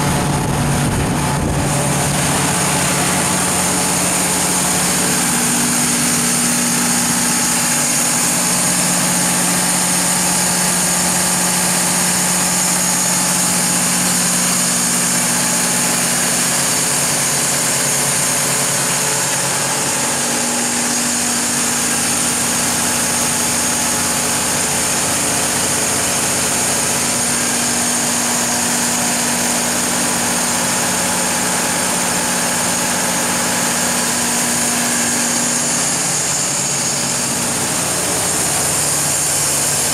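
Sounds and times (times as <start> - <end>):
diesel generator running: 0.0 - 39.9.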